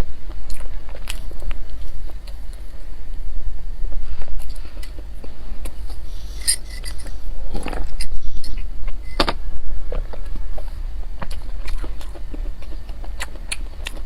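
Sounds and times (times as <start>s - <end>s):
crunchy bread chewing: 0.0s - 3.0s, 4.2s - 14.0s
steady low hum: 0.0s - 14.0s.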